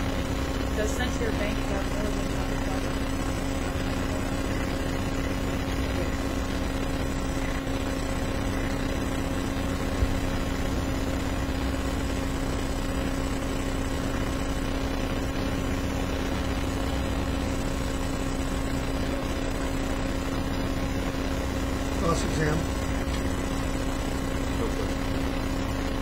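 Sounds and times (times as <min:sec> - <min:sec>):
background hum and hiss: 0:00.0 - 0:26.0.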